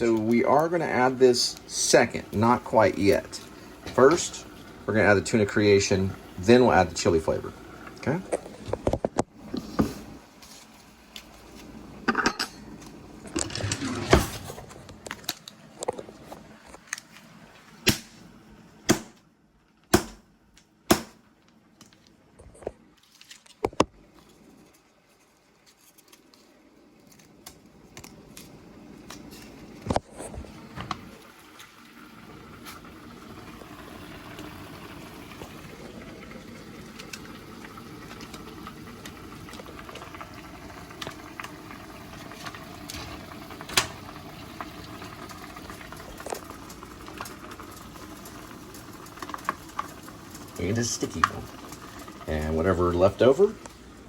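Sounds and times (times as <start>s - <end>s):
lidded pot boiling: 0.0s - 18.2s, 23.8s - 54.0s.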